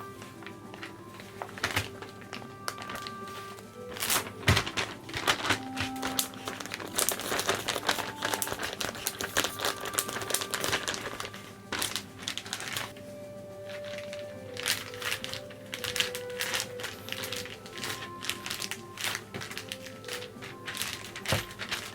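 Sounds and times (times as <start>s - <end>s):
plastic packaging crinkling: 0.0s - 21.9s.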